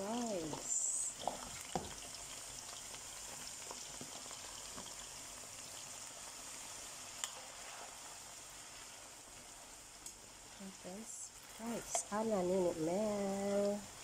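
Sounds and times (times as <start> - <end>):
potatoes sizzling in hot oil: 0.0 - 14.0.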